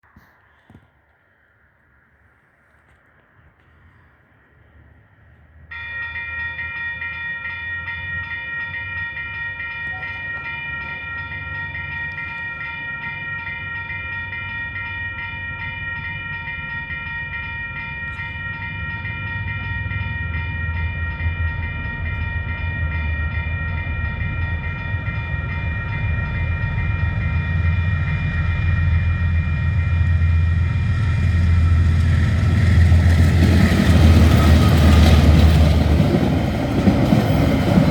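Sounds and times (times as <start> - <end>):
train rumble: 2.6 - 37.9
level crossing warning bells: 5.7 - 37.9.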